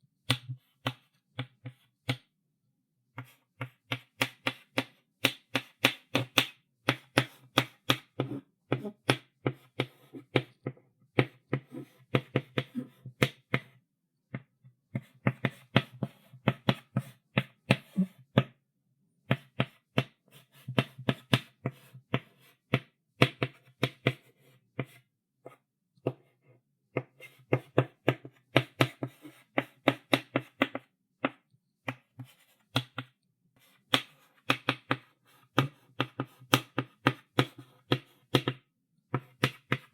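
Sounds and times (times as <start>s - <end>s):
chalk tapping and scratching on board: 0.2s - 2.3s, 3.2s - 18.6s, 19.3s - 26.3s, 26.9s - 39.9s.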